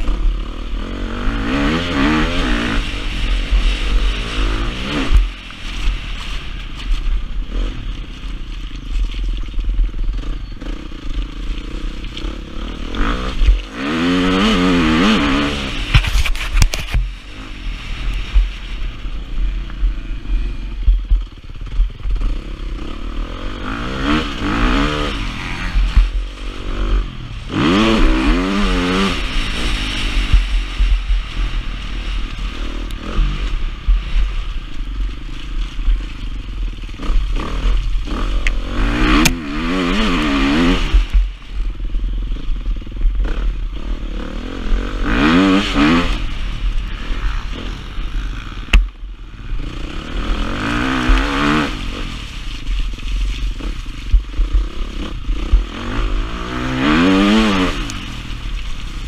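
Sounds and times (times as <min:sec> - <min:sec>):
motocross bike engine revving: 0:00.0 - 0:08.2, 0:09.9 - 0:59.0.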